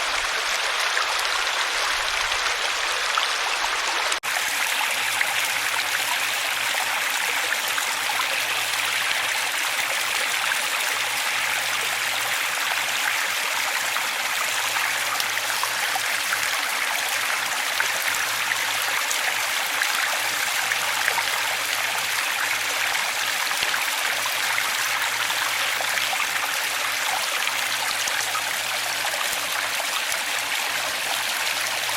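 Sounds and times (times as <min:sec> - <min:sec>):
stream water rushing: 0:00.0 - 0:31.9.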